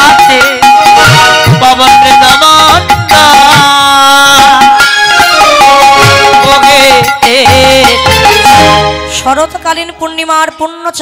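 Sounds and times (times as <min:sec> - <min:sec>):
hand-drum strokes: 0:00.0 - 0:08.8
wavering melody instrument: 0:00.0 - 0:09.1.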